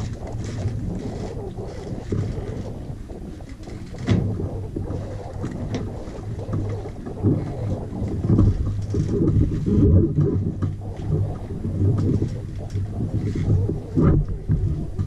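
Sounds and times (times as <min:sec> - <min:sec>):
low steady hum: 0:00.0 - 0:15.0
wind buffeting microphone: 0:00.0 - 0:15.0.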